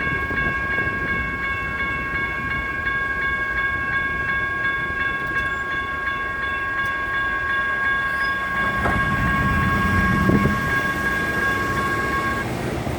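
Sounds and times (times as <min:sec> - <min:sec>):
railroad crossing bells ringing: 0:00.0 - 0:12.7
freight train rumbling: 0:00.0 - 0:12.9.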